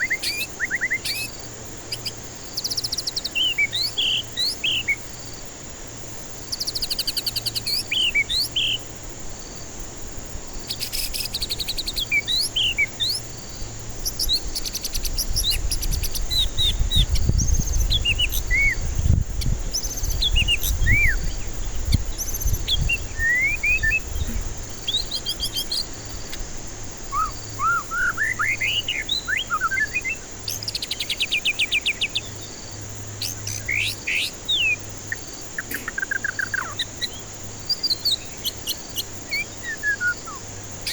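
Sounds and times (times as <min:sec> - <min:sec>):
bird singing whistles and trills: 0:00.0 - 0:05.1, 0:06.5 - 0:08.9, 0:10.7 - 0:26.4, 0:27.0 - 0:40.9.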